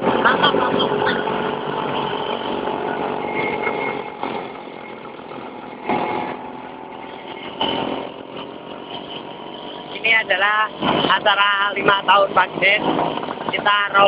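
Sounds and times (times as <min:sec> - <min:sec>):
scooter engines running: 0:00.0 - 0:14.0.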